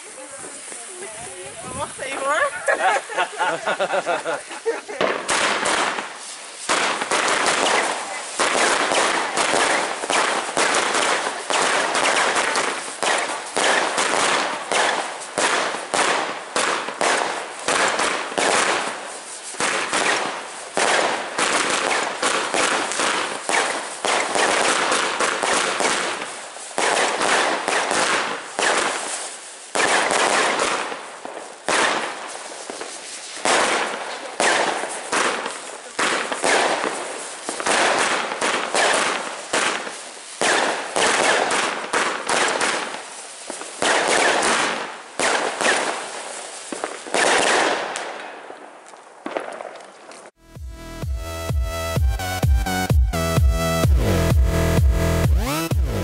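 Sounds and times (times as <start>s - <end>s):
fireworks shots and pops: 0.0s - 50.4s, 51.4s - 56.0s.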